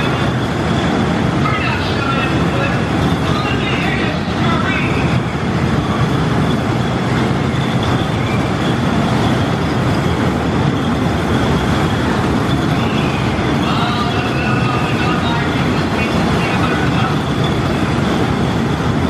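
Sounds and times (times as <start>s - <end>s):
amusement ride running noise: 0.0s - 19.0s.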